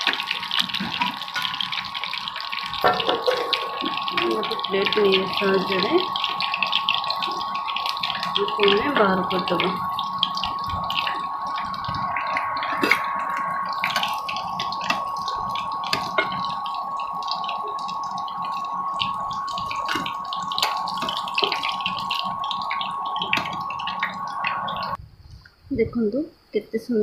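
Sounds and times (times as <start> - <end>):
fritters sizzling in oil: 0.0 - 25.0
steady high tone: 0.0 - 25.0.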